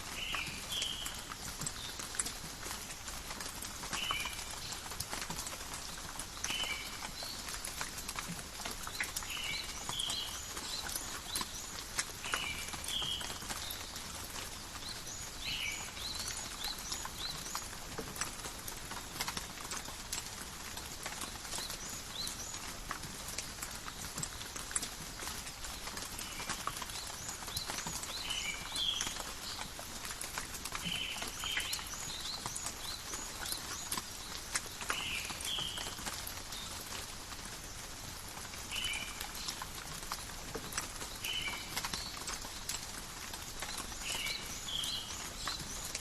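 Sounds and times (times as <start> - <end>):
rain pattering on leaves: 0.0 - 46.0.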